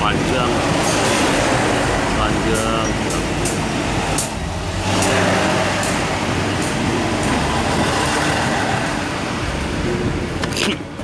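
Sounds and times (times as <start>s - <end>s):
railbus rumbling past: 0.0s - 11.0s.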